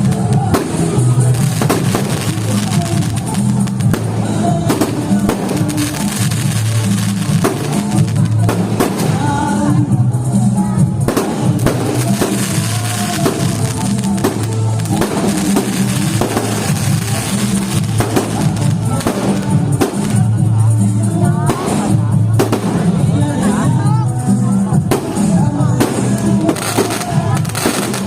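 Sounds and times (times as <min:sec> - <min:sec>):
music with heavy drum beat: 0:00.0 - 0:28.0.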